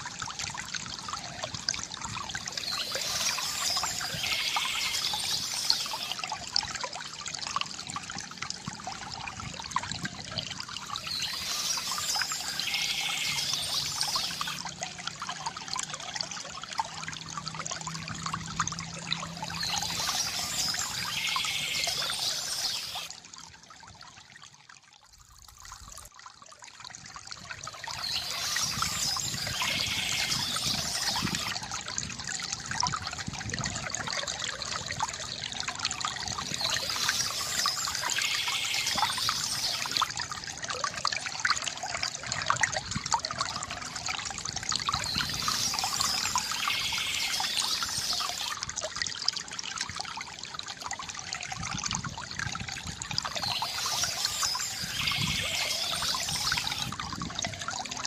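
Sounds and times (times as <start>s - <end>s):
water trickling from fountain: 0.0s - 58.0s.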